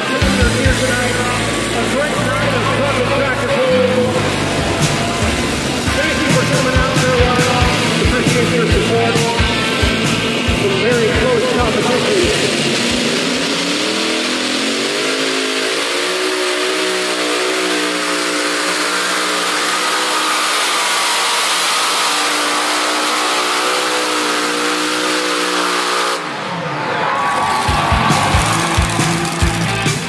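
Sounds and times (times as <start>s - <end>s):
pulling tractor engines at full throttle: 0.0s - 30.0s.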